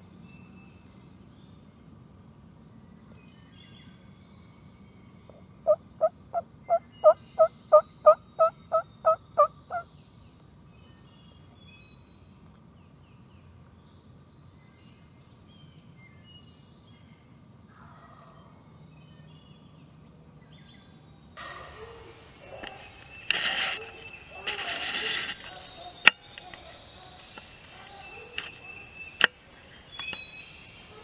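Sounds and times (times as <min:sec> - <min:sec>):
faint high birdsong: 0:02.7 - 0:31.0.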